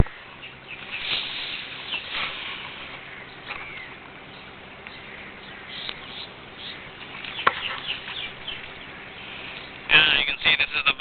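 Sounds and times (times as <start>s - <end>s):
bird chirps: 0.0s - 10.1s.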